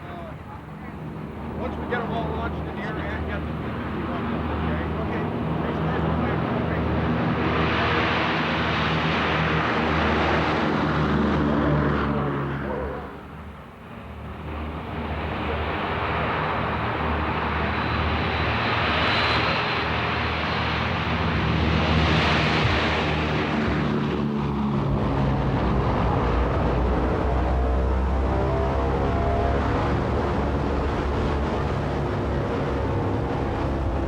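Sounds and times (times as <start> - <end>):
propeller plane engines droning: 0.0 - 34.0.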